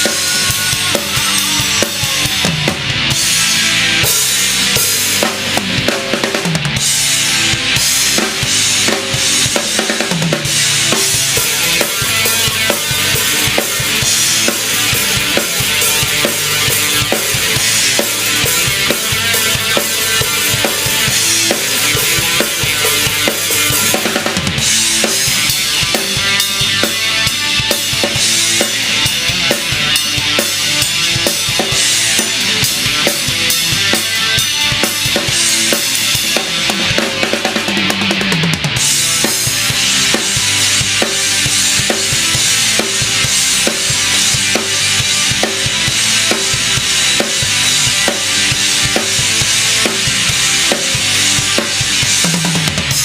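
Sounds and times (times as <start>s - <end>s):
band music: 0.0s - 53.0s
drum kit beat: 0.0s - 53.0s.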